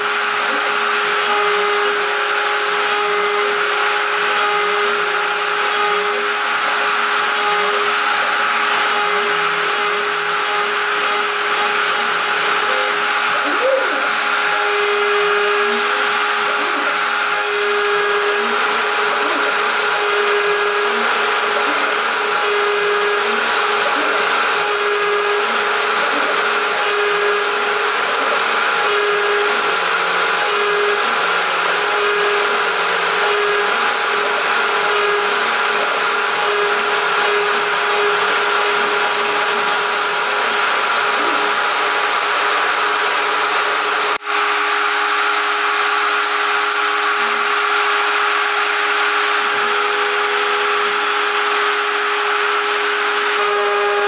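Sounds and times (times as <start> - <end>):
cnc router spindle whining: 0.0 - 54.0.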